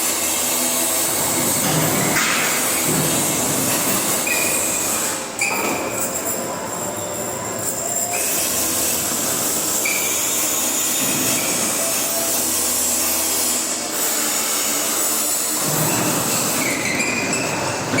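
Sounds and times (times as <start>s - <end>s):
welding arc sizzling: 0.0s - 18.0s.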